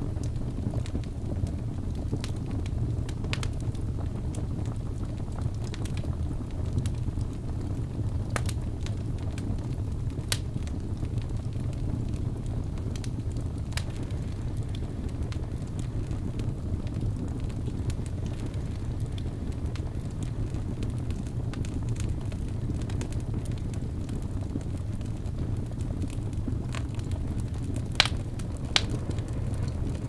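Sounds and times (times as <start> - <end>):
fire crackling: 0.0 - 30.0.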